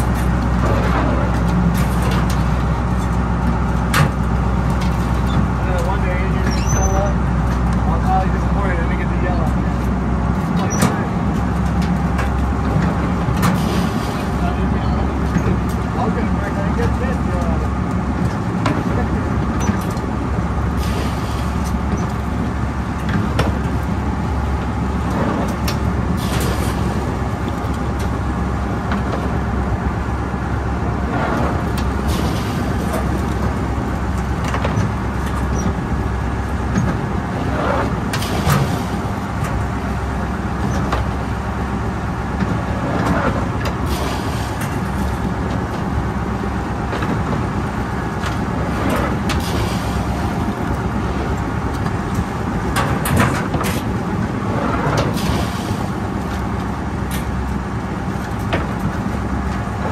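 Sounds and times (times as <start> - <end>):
boat engine running: 0.0 - 59.9
water rushing along hull: 0.0 - 59.9.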